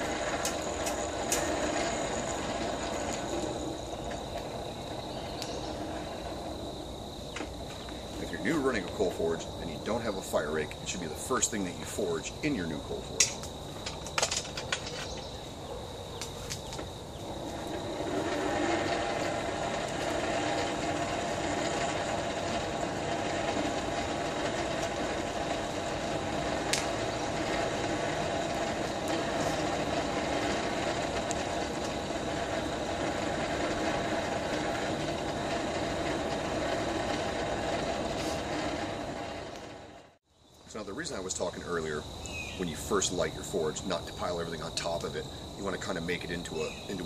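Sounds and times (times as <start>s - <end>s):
hand-cranked blower whirring: 0.0s - 40.2s
crickets chirring: 0.0s - 47.0s.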